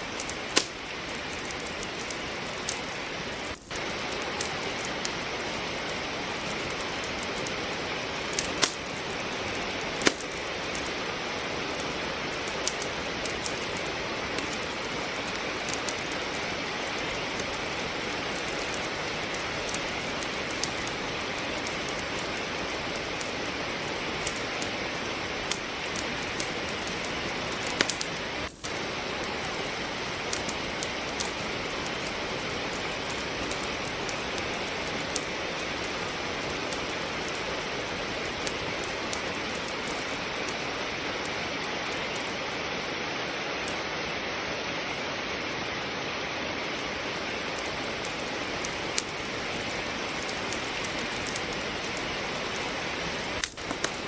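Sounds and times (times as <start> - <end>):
steady rain: 0.0 - 54.0
wood fire crackling: 0.0 - 54.0.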